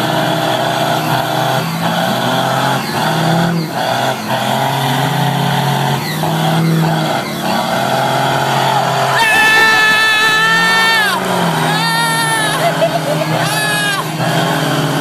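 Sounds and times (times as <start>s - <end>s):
truck engine at high revs: 0.0s - 15.0s
tyres squealing on pavement: 0.1s - 15.0s.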